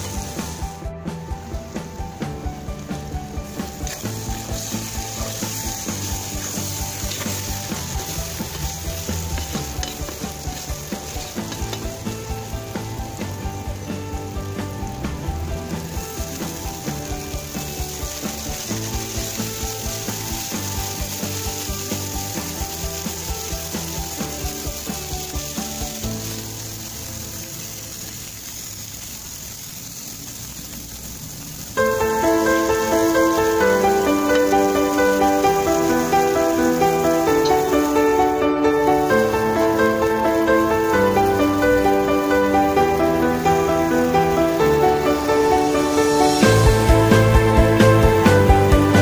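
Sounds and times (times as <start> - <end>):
background music with beat: 0.0 - 26.8, 31.8 - 49.0
carrots sizzling in oil: 0.0 - 49.0
water boiling in pot: 0.0 - 49.0.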